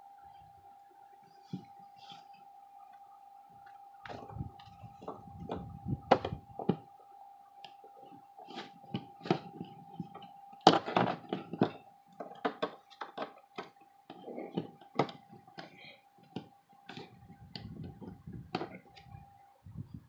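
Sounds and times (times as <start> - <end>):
faint steady tone: 0.0 - 20.0.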